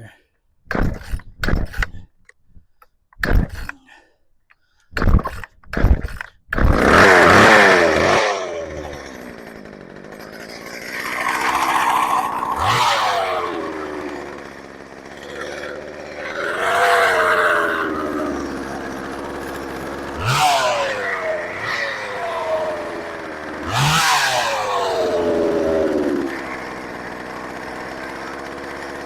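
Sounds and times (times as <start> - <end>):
chainsaw starter cord rips: 5.0 - 29.0
chainsaw running and revving: 5.3 - 29.0.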